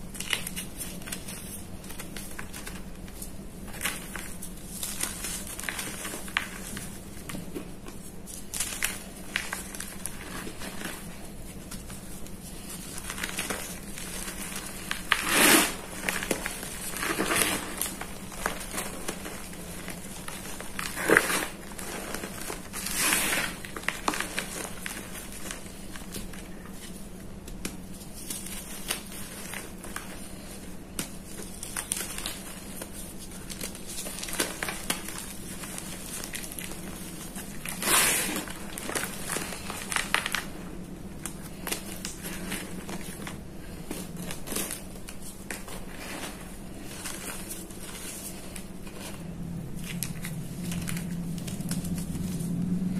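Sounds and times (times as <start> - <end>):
hands crumbling chalk: 0.1 - 52.6.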